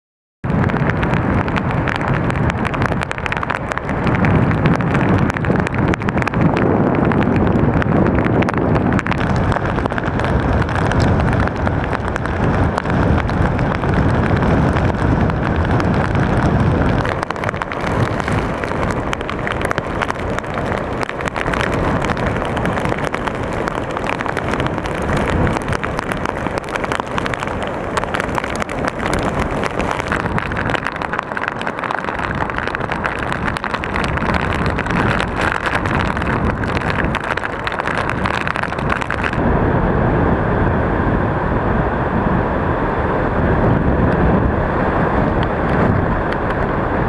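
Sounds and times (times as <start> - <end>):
strong wind gusting on microphone: 0.4 - 47.0.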